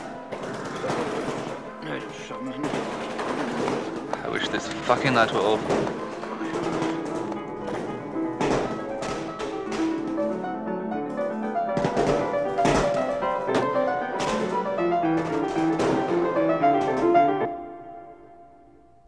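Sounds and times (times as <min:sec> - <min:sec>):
fast classical piano music: 0:00.0 - 0:19.0.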